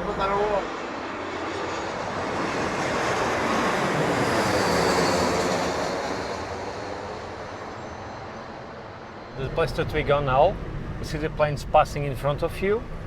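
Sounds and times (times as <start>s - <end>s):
airliner engines passing: 0.0s - 13.0s.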